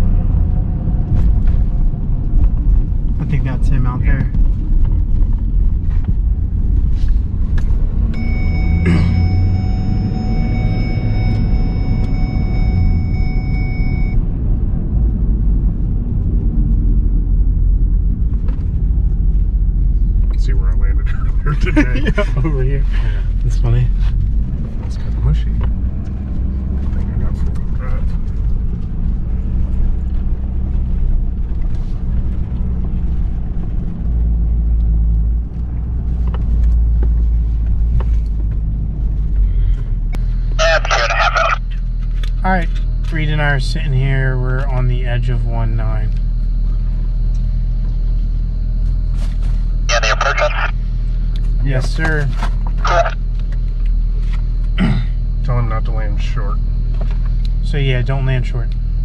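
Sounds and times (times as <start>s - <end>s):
vehicle engine rumble in cabin: 0.0s - 59.0s.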